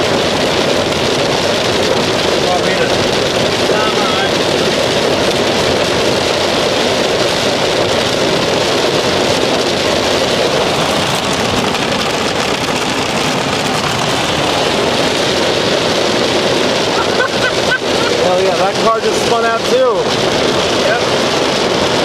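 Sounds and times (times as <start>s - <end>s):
hail pelting car roof: 0.0s - 22.0s
tyre and road noise: 0.0s - 22.0s.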